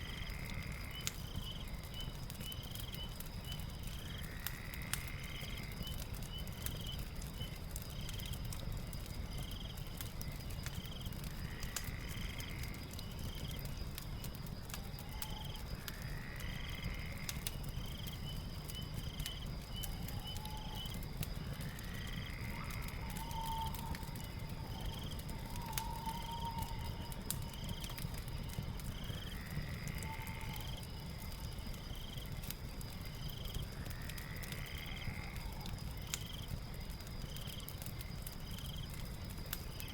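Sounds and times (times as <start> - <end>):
crackling fire: 0.0 - 39.9
high insect trill: 0.0 - 39.9.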